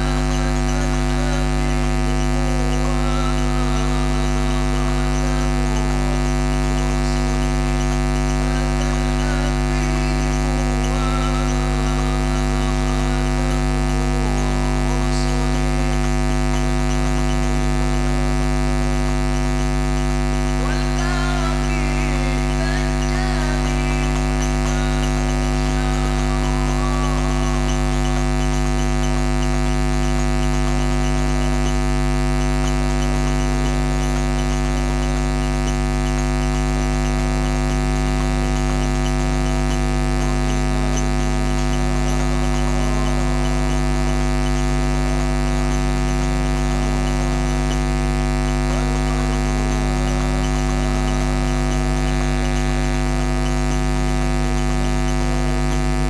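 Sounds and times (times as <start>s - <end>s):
electrical hum and buzz: 0.0s - 56.0s
faint wavering voices: 0.0s - 56.0s.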